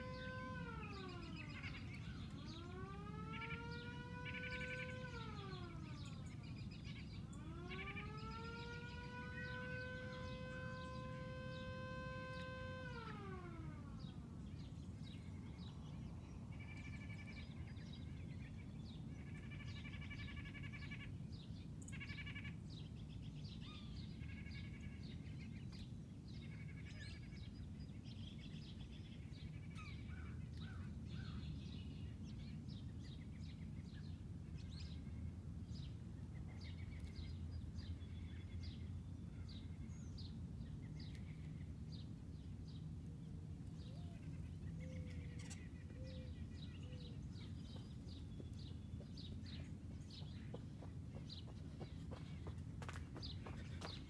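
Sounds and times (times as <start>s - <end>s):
birds chirping: 0.0s - 36.0s, 36.6s - 54.0s
low steady rumble: 8.4s - 54.0s.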